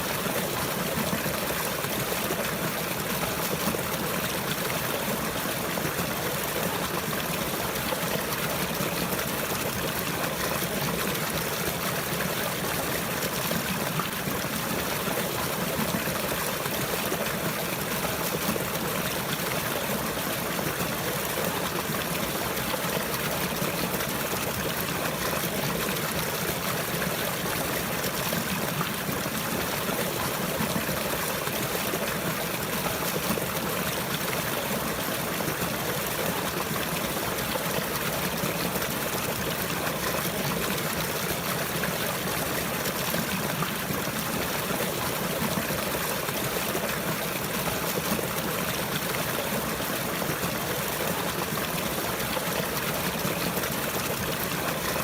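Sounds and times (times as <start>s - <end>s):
water trickling and flowing: 0.0s - 55.0s.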